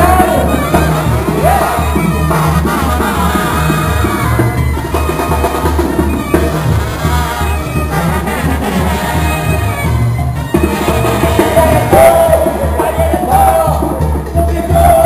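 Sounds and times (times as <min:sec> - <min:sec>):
drums: 0:00.0 - 0:15.0
trombones: 0:00.0 - 0:15.0
trumpets: 0:00.0 - 0:15.0
tuba bass line: 0:00.0 - 0:15.0.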